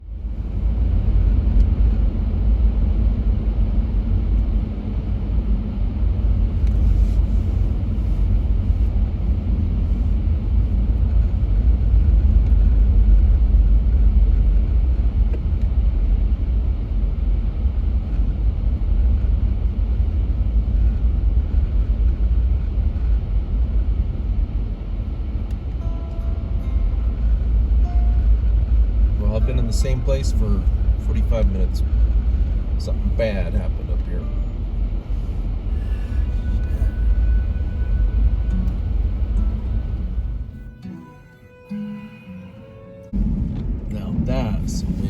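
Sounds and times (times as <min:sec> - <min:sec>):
wind noise: 0:00.0 - 0:40.7, 0:43.1 - 0:45.0
road noise: 0:00.0 - 0:45.0.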